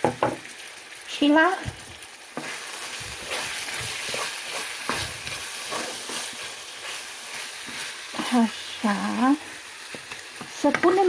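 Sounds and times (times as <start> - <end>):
onions and sausage sizzling in a pan: 0.0 - 11.0
wooden spoon scraping a pan: 1.7 - 11.0.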